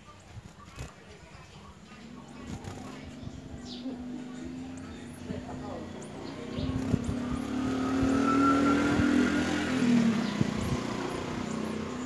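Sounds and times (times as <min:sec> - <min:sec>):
vehicle engine passing: 0:02.0 - 0:12.0.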